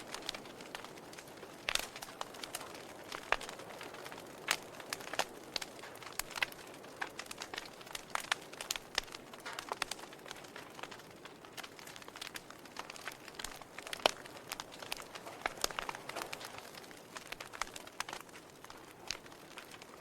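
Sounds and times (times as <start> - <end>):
fire hissing softly: 0.0 - 20.0
logs crackling and popping: 0.0 - 20.0.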